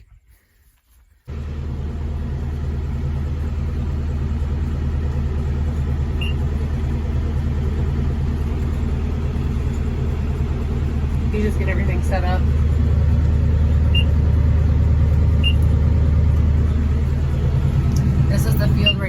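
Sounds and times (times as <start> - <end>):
tractor engine droning: 1.3 - 19.0.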